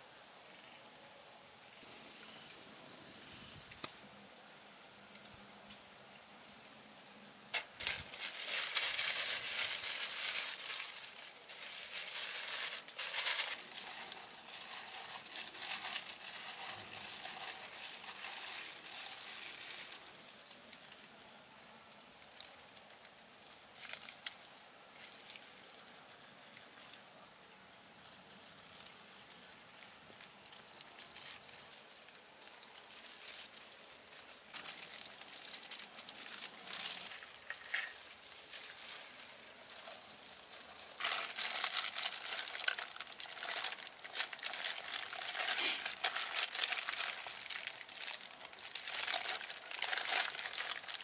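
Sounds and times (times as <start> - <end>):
plastic gloves crinkling: 1.8 - 4.1, 7.1 - 27.3, 27.9 - 51.0.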